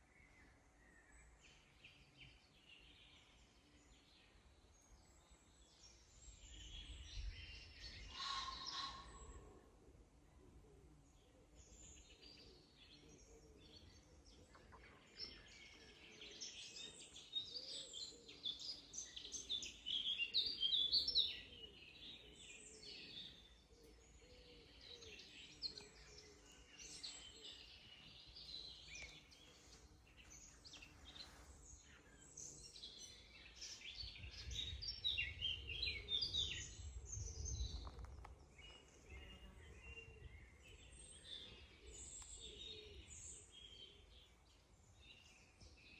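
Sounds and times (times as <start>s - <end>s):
songbirds chirping and trilling: 0.0s - 45.9s.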